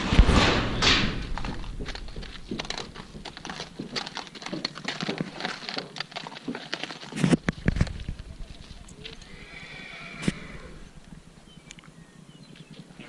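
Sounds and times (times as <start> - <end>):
hooves and tack knocking: 0.8 - 13.0.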